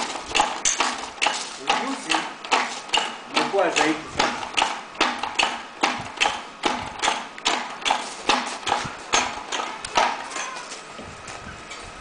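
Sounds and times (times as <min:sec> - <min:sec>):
hand winch clacking: 0:00.0 - 0:10.8.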